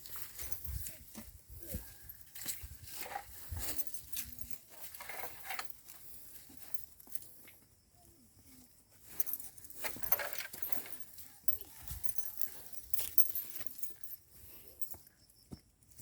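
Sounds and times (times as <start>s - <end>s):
rustling and crunching: 0.0s - 7.4s, 9.0s - 15.0s.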